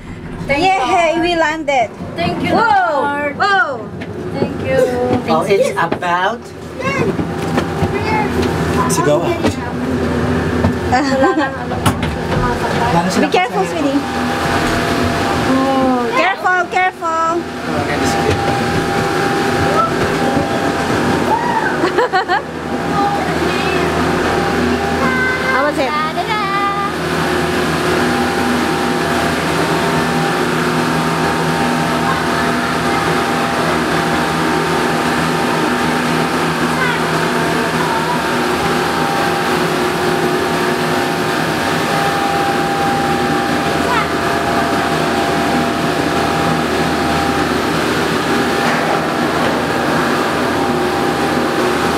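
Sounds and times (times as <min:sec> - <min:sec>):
gondola machinery humming: 0:00.0 - 0:51.9.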